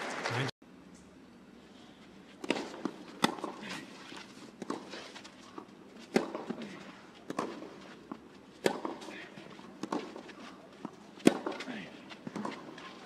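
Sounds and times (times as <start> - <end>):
footsteps on clay court: 1.8 - 13.0
racket striking tennis ball: 2.4 - 13.0
tennis ball bouncing: 2.4 - 13.0.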